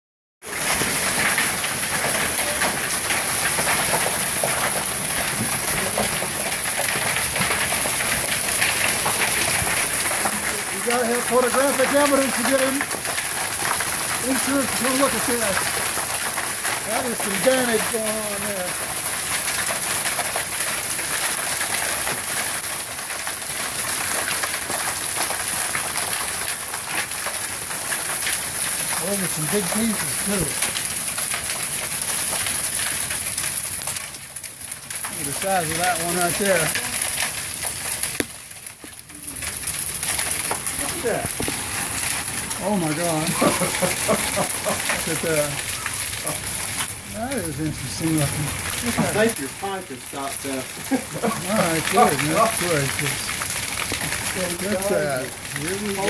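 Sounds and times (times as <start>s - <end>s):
hailstones clattering on house: 0.4s - 56.0s.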